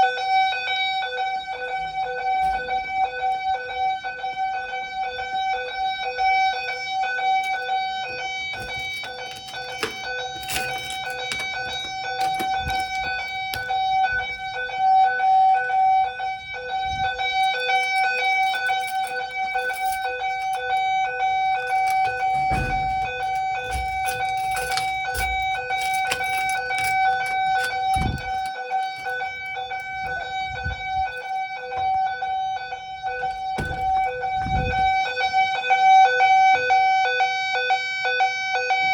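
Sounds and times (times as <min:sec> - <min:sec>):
fire alarm tone: 0:00.0 - 0:38.9.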